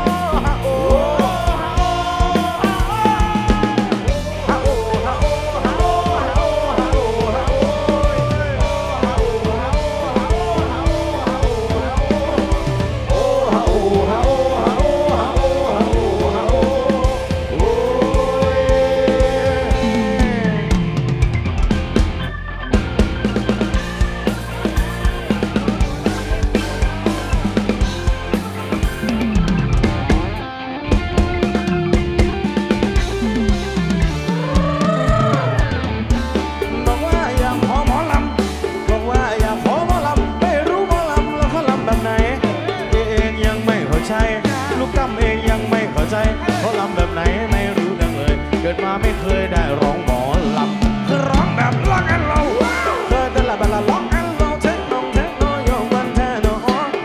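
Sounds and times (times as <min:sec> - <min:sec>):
drum kit beat: 0:00.0 - 0:57.0
electric guitar: 0:00.0 - 0:57.0.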